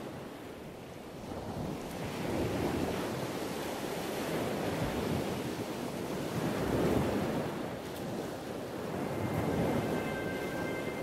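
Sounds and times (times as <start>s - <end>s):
sea water washing and surging: 0.0s - 11.0s.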